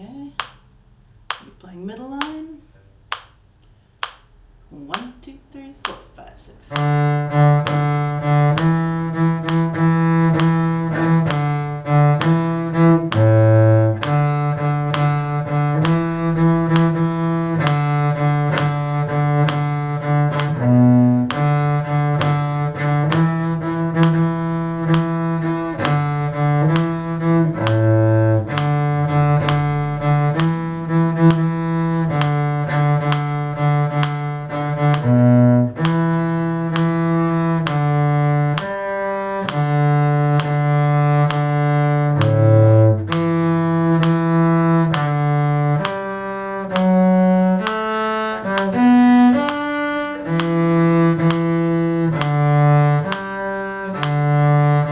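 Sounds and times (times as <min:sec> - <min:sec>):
cello melody: 0:04.0 - 0:54.9.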